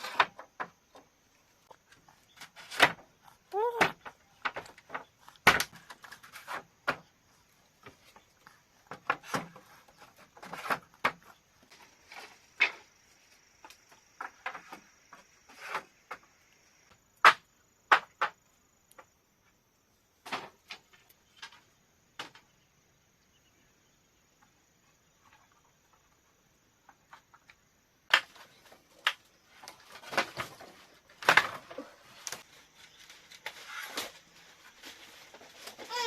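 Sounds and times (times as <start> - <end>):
wooden knocks and bamboo clatter: 0.0 - 19.1, 20.2 - 22.6, 24.3 - 36.0.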